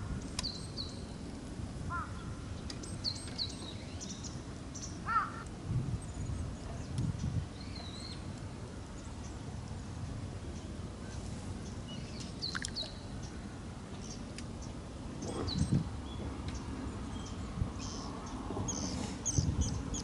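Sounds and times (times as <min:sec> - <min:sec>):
small birds chirping: 0:00.2 - 0:01.3, 0:01.9 - 0:09.4, 0:10.4 - 0:13.4, 0:14.0 - 0:20.0.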